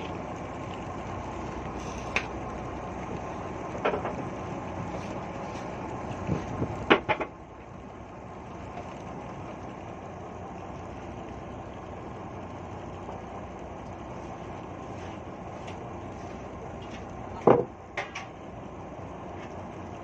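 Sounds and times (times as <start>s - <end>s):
boat engine running: 0.0s - 20.0s
wind and water noise: 0.0s - 20.0s.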